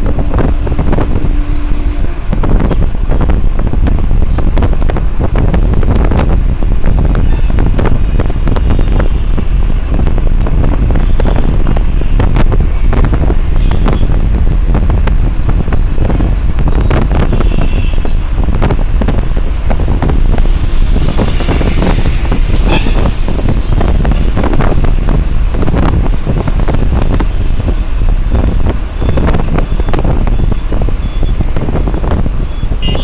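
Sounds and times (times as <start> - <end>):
road traffic: 0.0 - 33.0
wind buffeting microphone: 0.0 - 33.0.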